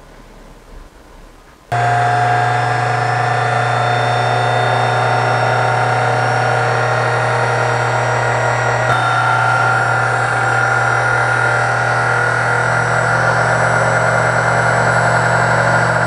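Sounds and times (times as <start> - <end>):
drill press motor hum and whine: 1.7 - 16.0.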